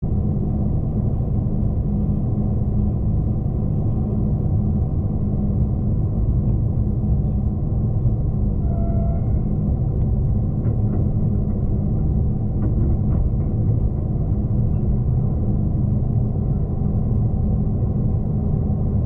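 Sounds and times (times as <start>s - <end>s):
constant hum: 0.0s - 19.0s
train rumble from inside carriage: 0.0s - 19.0s.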